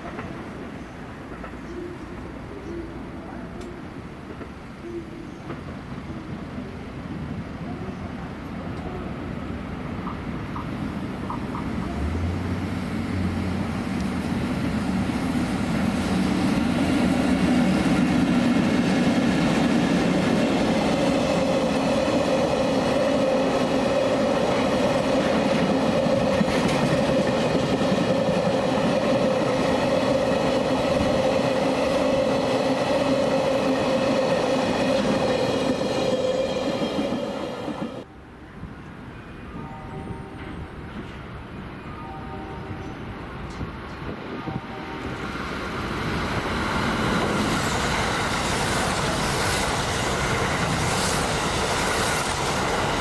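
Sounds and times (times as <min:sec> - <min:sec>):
train rolling on rails: 0:00.0 - 0:53.0.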